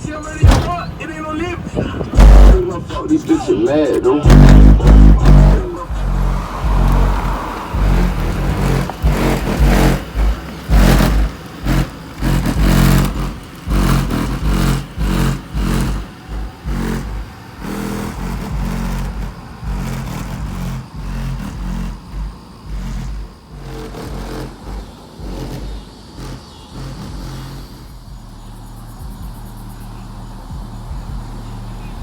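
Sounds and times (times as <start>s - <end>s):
rap music with heavy bass: 0.0s - 32.0s.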